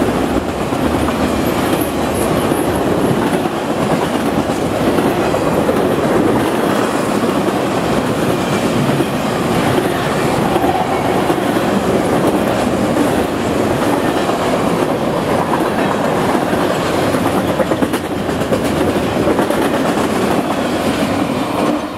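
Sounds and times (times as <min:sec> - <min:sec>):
clickety-clack over rail joints: 0:00.0 - 0:21.9
train wheels on rails: 0:00.0 - 0:21.9.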